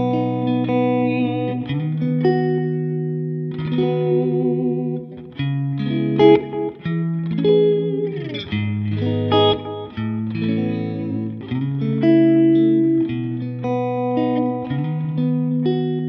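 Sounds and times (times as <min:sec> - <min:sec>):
electric guitar chords: 0:00.0 - 0:16.0.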